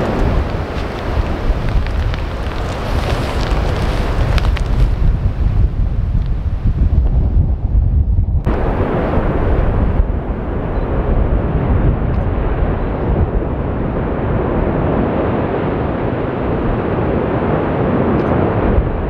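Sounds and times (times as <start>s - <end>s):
lava fountain rushing: 0.0s - 7.6s, 8.4s - 19.0s
deep rumble: 0.0s - 19.0s.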